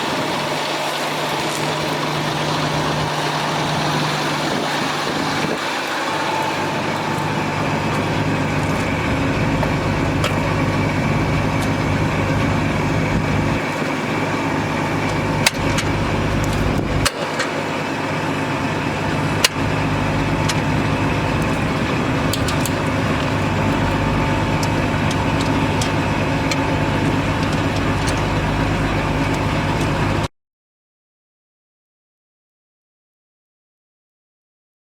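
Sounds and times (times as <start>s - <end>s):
truck diesel engine running: 0.0s - 30.3s.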